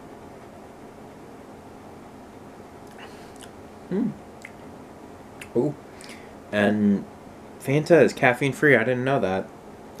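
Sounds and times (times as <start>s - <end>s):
room tone hiss: 0.0s - 10.0s.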